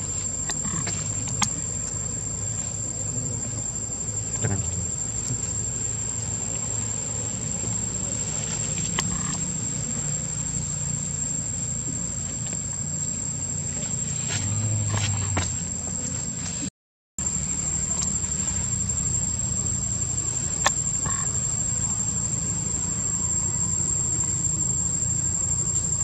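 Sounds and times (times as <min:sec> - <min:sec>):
insects droning: 0:00.0 - 0:26.0
low outdoor rumble: 0:00.0 - 0:26.0.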